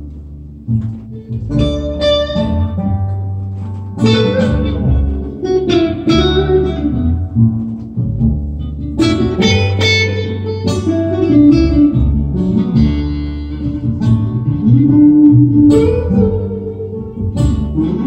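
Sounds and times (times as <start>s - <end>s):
upright bass: 0.0s - 18.0s
strummed acoustic guitar: 0.7s - 18.0s.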